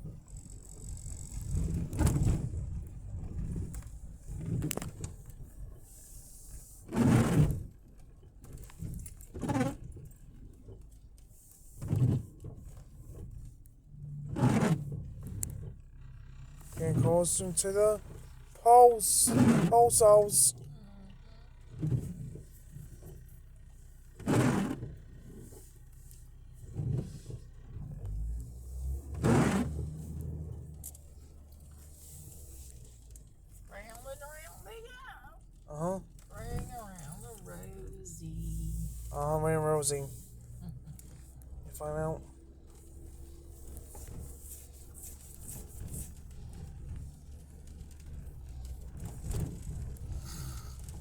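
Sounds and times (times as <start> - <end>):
car rumble from inside cabin: 0.0 - 51.0.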